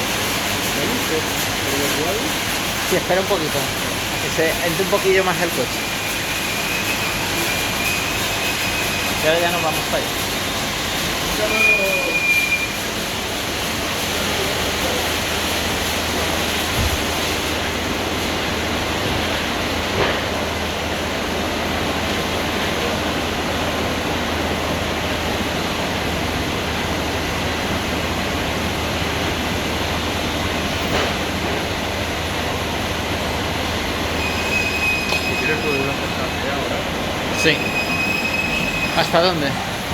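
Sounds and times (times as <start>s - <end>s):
car wash brushes and water spray: 0.0s - 37.7s.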